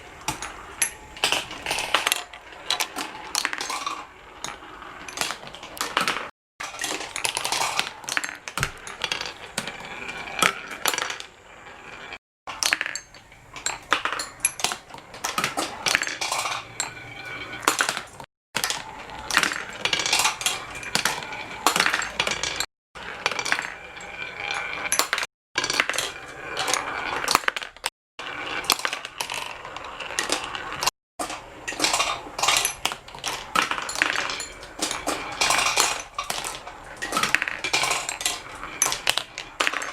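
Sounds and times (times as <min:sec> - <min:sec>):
marbles clattering through marble run: 0:00.2 - 0:39.9.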